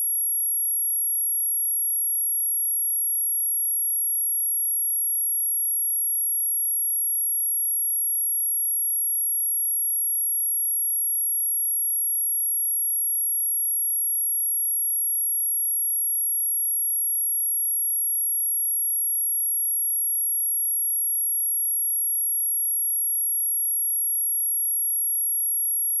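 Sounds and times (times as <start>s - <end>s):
high-pitched sine wave test tone: 0.0s - 26.0s.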